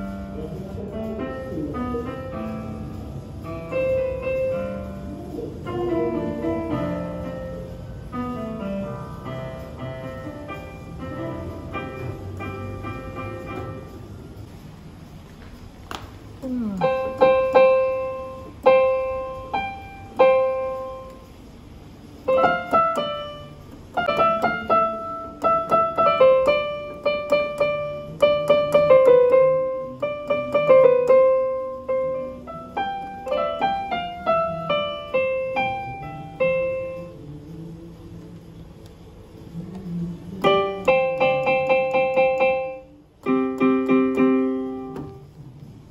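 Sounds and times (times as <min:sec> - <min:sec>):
electronic keyboard piano notes: 0:00.0 - 0:15.3, 0:16.4 - 0:45.9.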